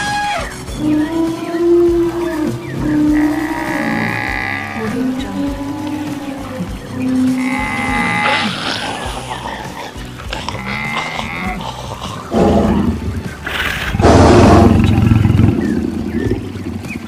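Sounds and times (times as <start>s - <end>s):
animal calls: 0.0s - 17.0s.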